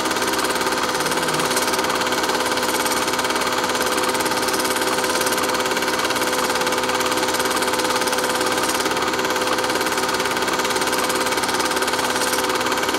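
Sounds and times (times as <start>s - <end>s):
machine whirring and clattering: 0.0s - 12.9s.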